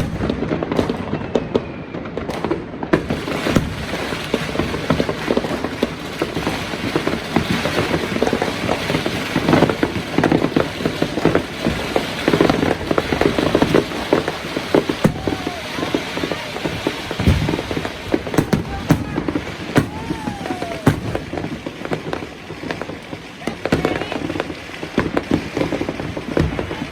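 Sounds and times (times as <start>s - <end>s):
fireworks crackling and banging: 0.0s - 26.9s.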